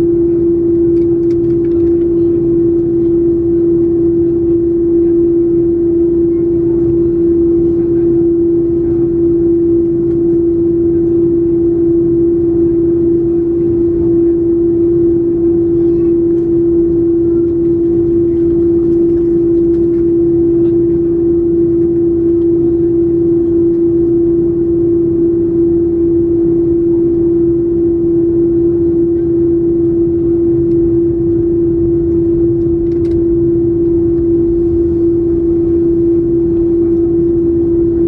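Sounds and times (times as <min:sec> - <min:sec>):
jet engines idling in cabin: 0:00.0 - 0:38.0.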